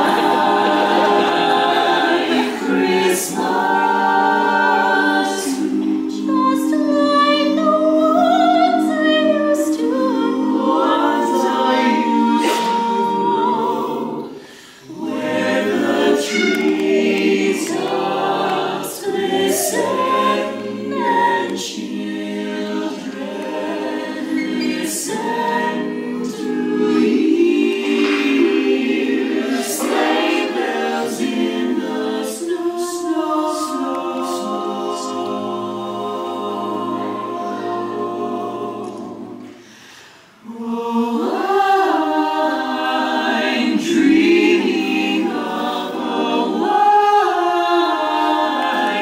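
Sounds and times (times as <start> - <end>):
choir singing a cappella: 0.0 - 49.0.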